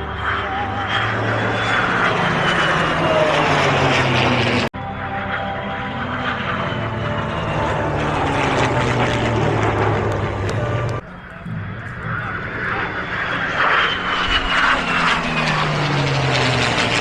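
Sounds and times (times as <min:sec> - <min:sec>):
aircraft engine passing: 0:00.0 - 0:17.0.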